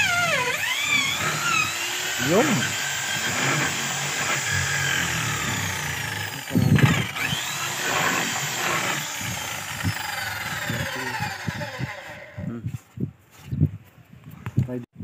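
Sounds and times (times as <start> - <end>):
electric drill boring into wood: 0.0 - 12.5.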